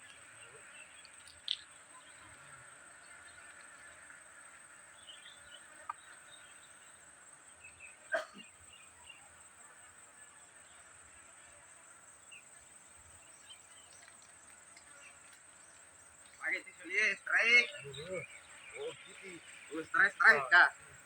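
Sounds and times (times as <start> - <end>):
faint chirps: 0.0 - 21.0.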